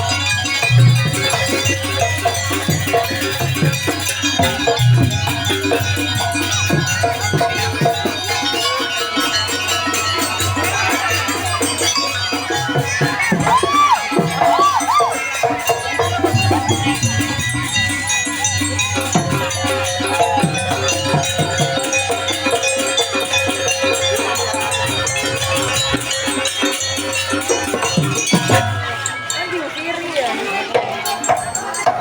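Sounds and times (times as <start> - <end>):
fast dense percussion: 0.0 - 32.0.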